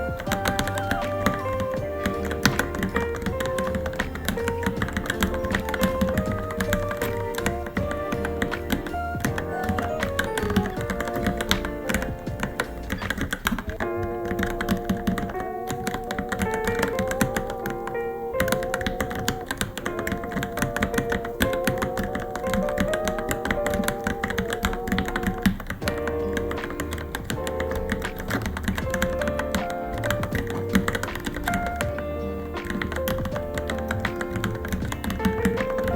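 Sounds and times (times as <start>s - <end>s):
fast typing on mechanical keyboard: 0.0s - 17.8s, 18.4s - 35.9s
background music with melody: 0.0s - 35.9s.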